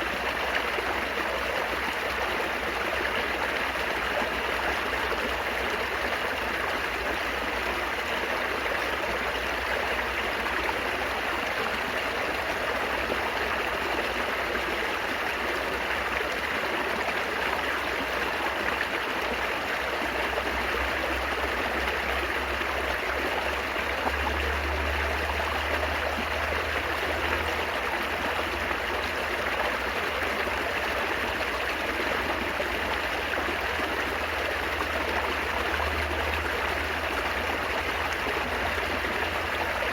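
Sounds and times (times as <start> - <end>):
stream water babbling over stones: 0.0 - 39.9.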